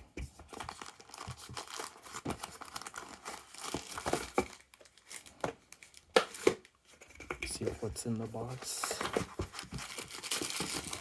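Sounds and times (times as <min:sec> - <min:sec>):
packaging crinkling and rustling: 0:00.4 - 0:06.8, 0:08.4 - 0:11.0.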